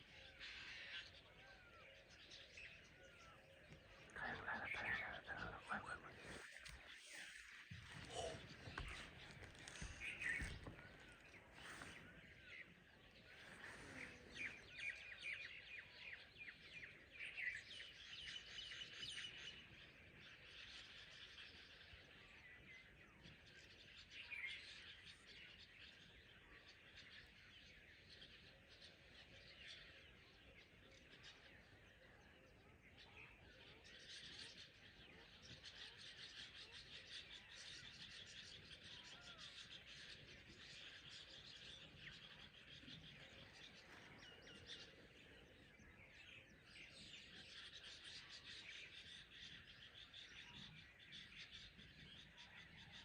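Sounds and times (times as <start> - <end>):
birds chirping and calling: 0.1 - 22.2, 28.2 - 53.0.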